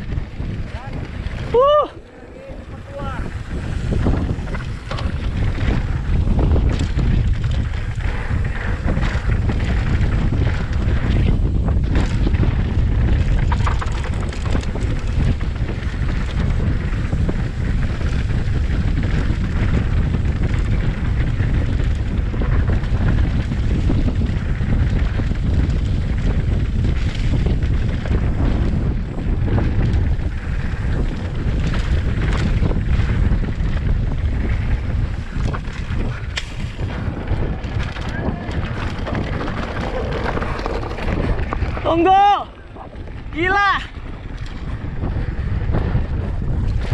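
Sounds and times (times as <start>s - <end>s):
bike tyres rumbling on dirt: 0.0s - 46.9s
wind buffeting microphone: 0.0s - 46.9s
bike clicks and knocks: 3.3s - 43.2s, 44.0s - 46.9s.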